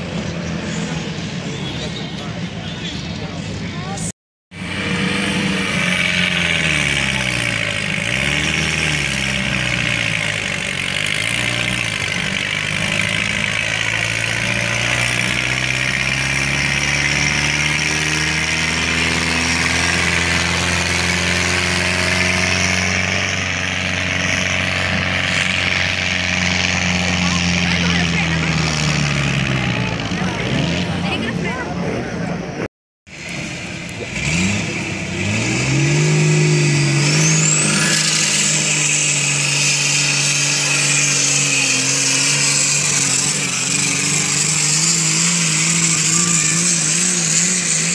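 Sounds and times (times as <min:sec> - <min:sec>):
tractor engine at full load: 0:00.0 - 0:47.9.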